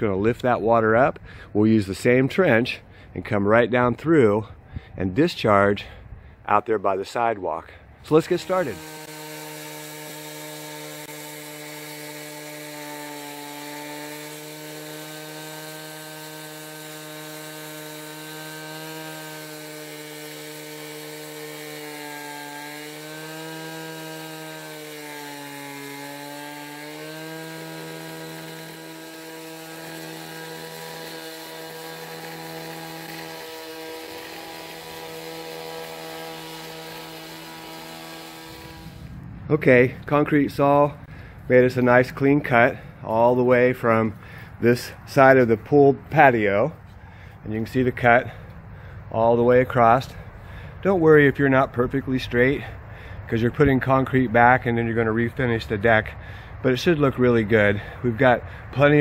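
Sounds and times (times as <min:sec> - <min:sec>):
concrete saw cutting: 0:05.4 - 0:46.4, 0:47.2 - 0:48.6, 0:53.4 - 0:59.0.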